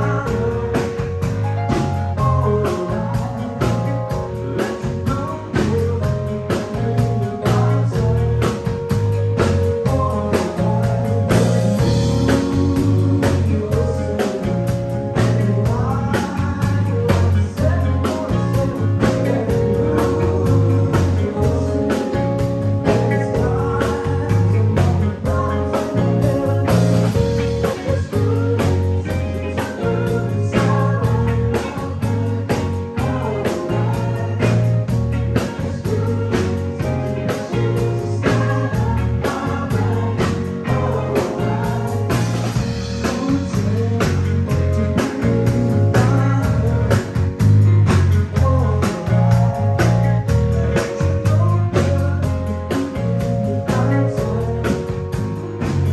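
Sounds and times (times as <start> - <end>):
live blues-rock band: 0.0 - 55.9
person singing: 0.0 - 55.9.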